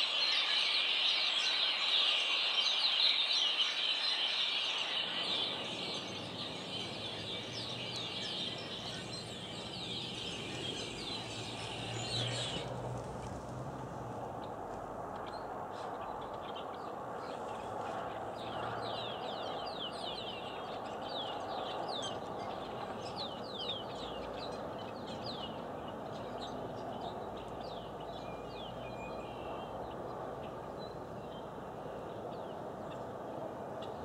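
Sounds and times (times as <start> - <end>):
steady background noise: 0.0 - 34.0
blackbirds calling: 2.1 - 33.0.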